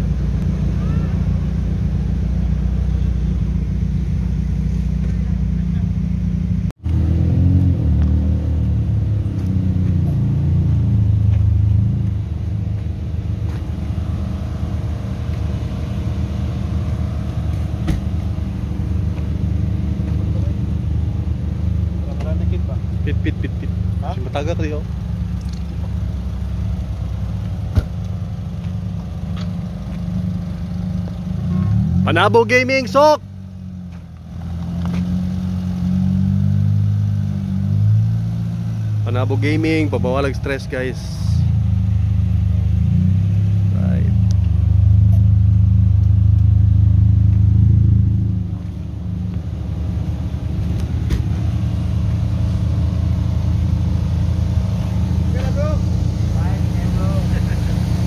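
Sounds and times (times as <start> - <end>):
car engine idling: 0.0 - 7.0, 8.0 - 58.0.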